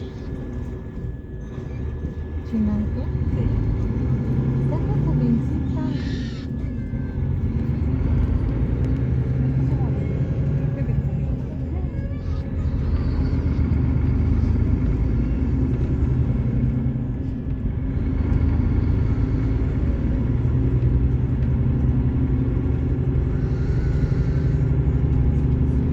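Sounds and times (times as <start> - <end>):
diesel engine rumbling: 0.0 - 25.9.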